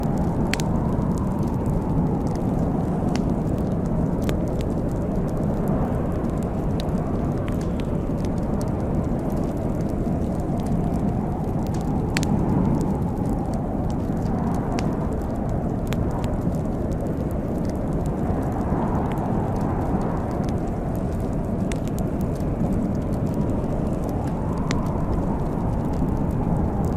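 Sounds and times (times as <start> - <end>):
sharp pops and snaps: 0.0 - 26.9
wood fire crackling: 0.0 - 26.9.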